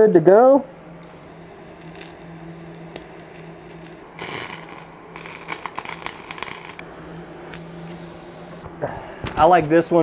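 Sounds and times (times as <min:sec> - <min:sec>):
steady low hum: 0:00.0 - 0:10.0
welding arc hissing and crackling: 0:01.0 - 0:10.0.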